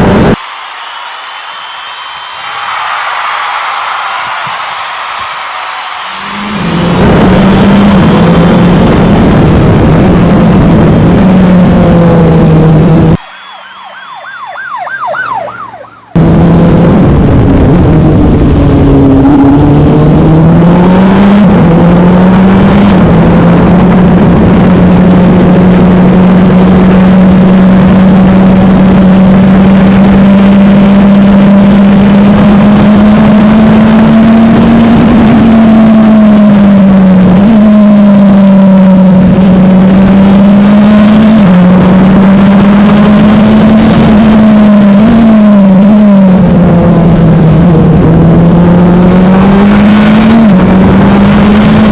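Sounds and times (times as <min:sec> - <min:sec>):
race car engine with gear changes: 0:00.0 - 0:02.3, 0:05.7 - 0:13.3, 0:13.9 - 0:51.9.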